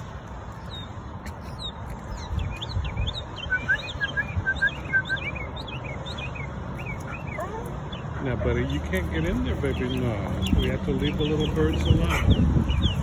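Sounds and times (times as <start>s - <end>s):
songbirds chirping and singing: 0.0s - 13.0s.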